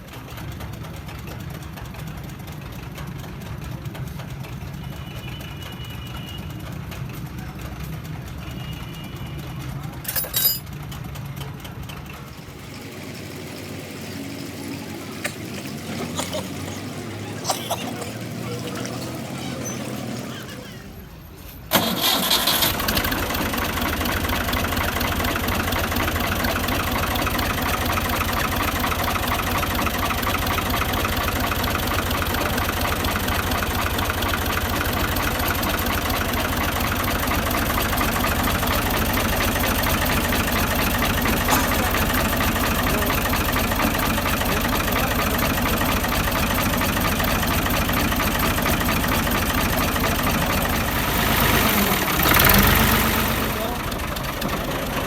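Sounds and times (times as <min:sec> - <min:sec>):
engine starting and idling: 0:10.1 - 0:55.0.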